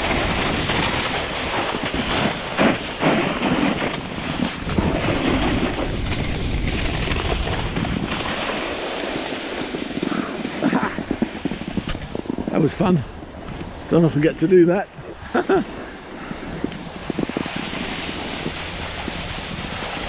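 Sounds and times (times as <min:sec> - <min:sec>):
skis scraping over snow: 0:00.0 - 0:20.0
wind rushing over microphone: 0:00.0 - 0:20.0.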